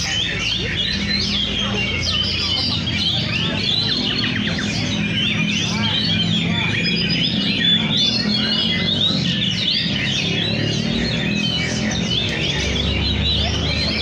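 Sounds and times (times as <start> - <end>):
songbirds whistling: 0.0 - 14.0.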